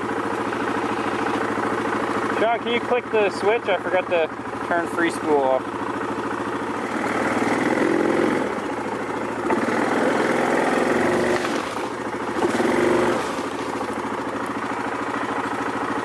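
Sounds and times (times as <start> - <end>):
atv engine idling: 0.0 - 16.0
electric winch pulling: 0.0 - 16.0.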